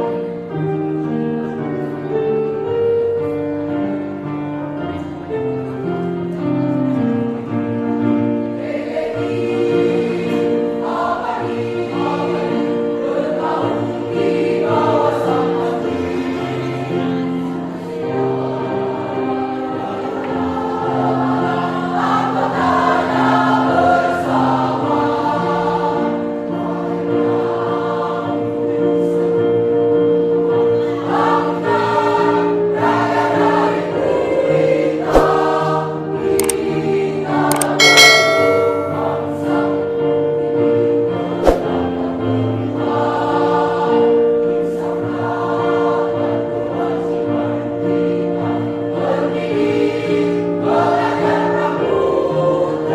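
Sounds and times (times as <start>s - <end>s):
choir singing in harmony: 0.0s - 52.9s.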